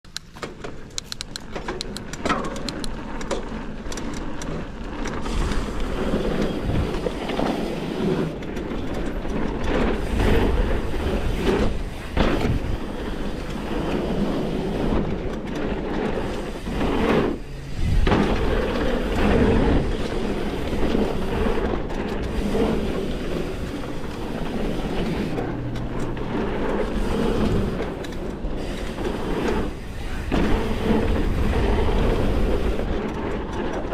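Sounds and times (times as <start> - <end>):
bike rattling over bumps: 0.2 - 33.9
bike tyres rolling over dirt: 0.3 - 33.9.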